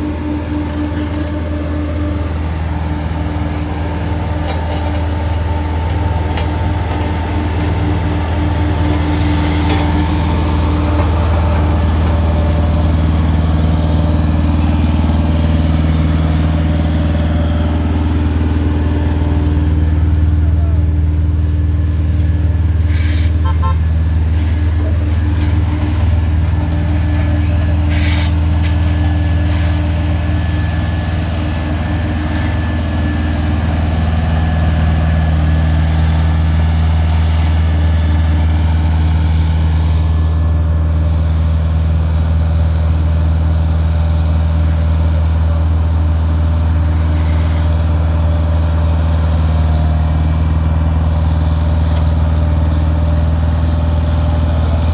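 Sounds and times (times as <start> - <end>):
machine engine humming: 0.0 - 54.9.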